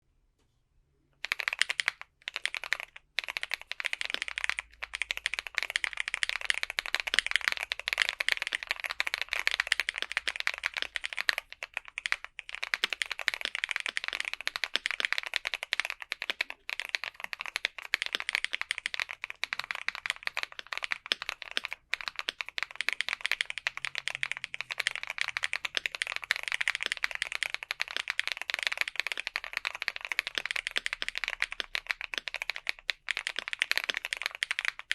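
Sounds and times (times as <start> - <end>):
fast mechanical keyboard typing: 1.2 - 34.9.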